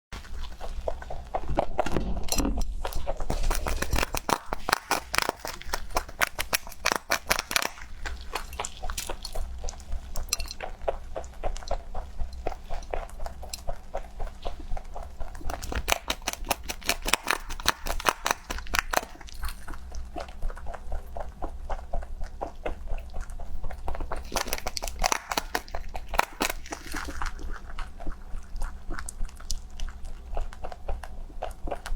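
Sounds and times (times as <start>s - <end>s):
rabbit chewing crunchy food: 0.1s - 31.9s.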